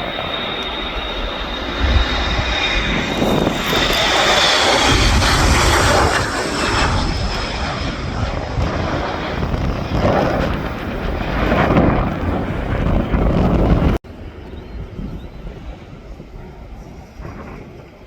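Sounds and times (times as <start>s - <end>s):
airliner engines roaring: 0.0s - 18.0s
wind buffeting microphone: 0.0s - 18.0s.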